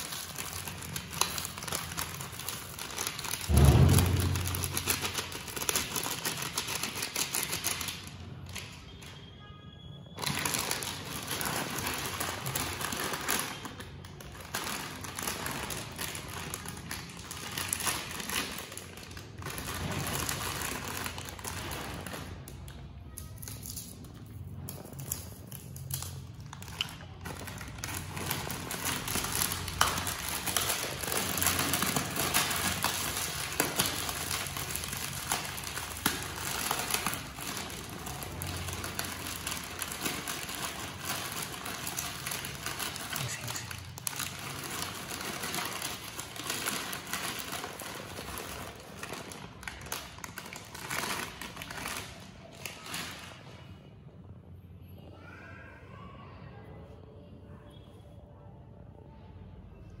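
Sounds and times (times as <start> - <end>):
snack packets crinkling: 0.0 - 9.0, 10.2 - 53.4.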